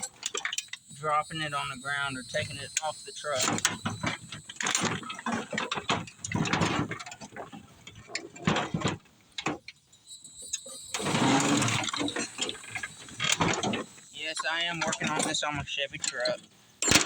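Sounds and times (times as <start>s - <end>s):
metal knocks and scrapes: 0.0s - 17.0s.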